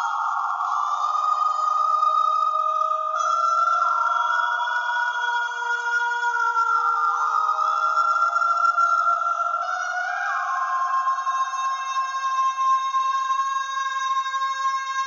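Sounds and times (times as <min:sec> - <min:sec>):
synthesized choir pad: 0:00.0 - 0:15.0.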